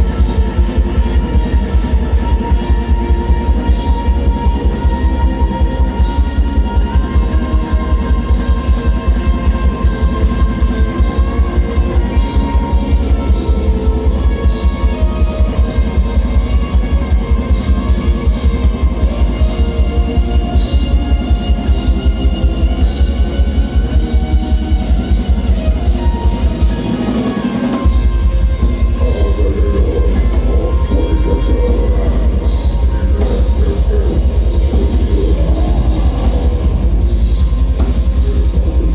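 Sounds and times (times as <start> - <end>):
heavy distorted guitars and bass: 0.0 - 38.9.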